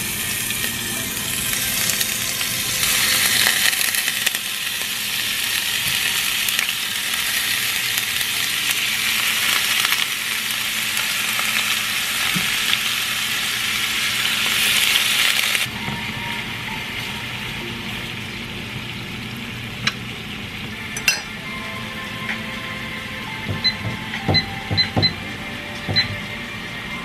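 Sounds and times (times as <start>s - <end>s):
shrimp sizzling in hot oil: 0.0s - 22.1s.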